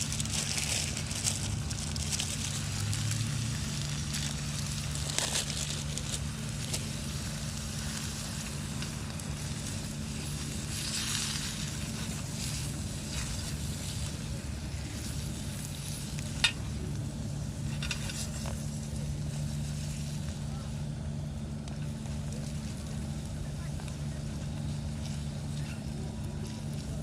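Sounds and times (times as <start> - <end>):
low engine drone: 0.0 - 27.0
wood fire crackling: 0.0 - 27.0.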